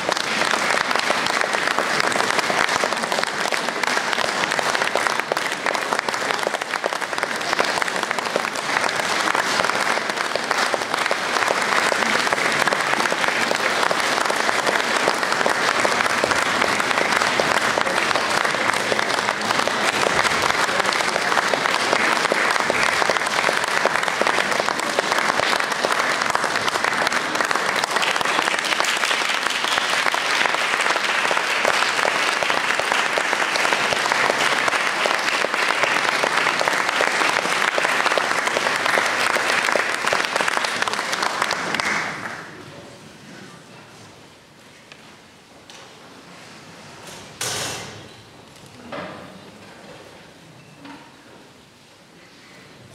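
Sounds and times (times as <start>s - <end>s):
audience applauding: 0.0s - 42.8s.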